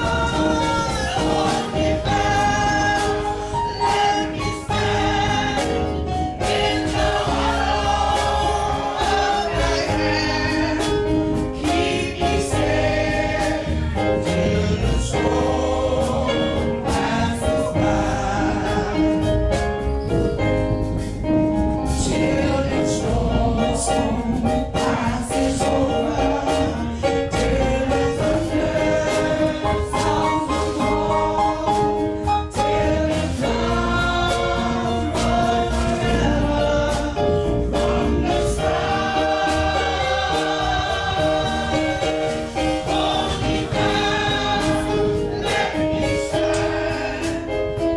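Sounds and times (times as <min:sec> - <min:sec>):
choir singing gospel: 0:00.0 - 0:47.9
drums: 0:00.0 - 0:47.9
steady bass: 0:00.0 - 0:47.9.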